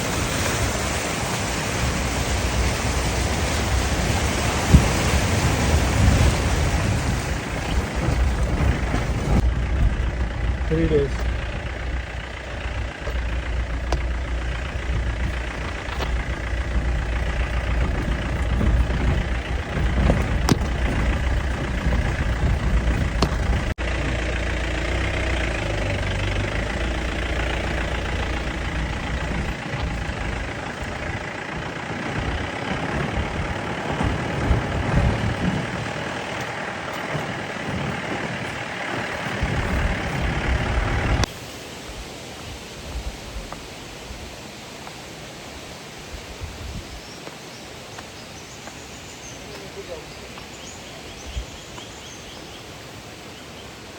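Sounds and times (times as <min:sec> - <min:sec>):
jeep engine low rumble: 0:00.0 - 0:42.0, 0:42.6 - 0:53.9.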